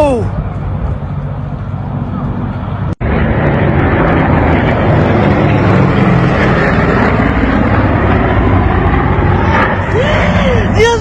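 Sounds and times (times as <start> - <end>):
aircraft engines rumbling: 0.0 - 11.0.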